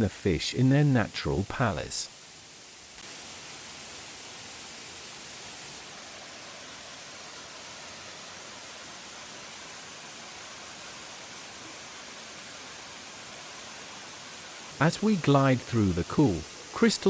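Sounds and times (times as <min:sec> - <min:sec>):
waterfall rushing: 0:03.1 - 0:17.0.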